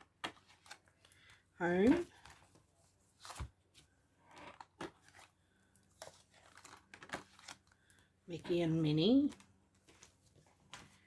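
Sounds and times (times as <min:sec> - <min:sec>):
paper envelopes rustling: 0:00.0 - 0:11.0.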